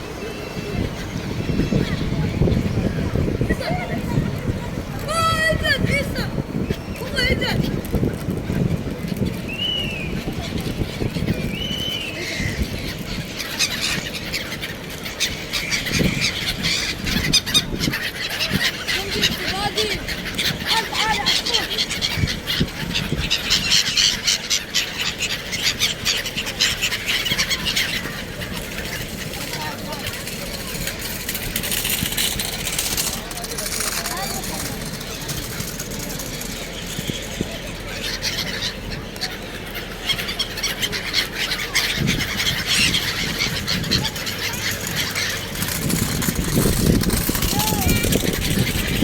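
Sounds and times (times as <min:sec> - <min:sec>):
gulls calling: 0:00.0 - 0:49.0.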